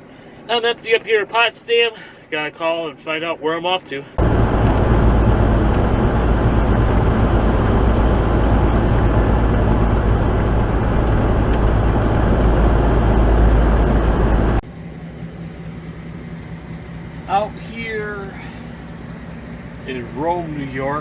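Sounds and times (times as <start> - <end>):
truck road and engine noise: 4.1 - 21.0.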